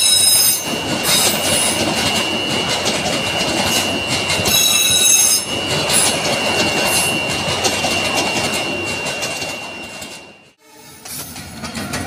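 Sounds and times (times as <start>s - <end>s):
train wheels clicking over joints: 0.0s - 10.3s, 11.0s - 12.0s
high-pitched wheel squeal: 0.0s - 11.3s.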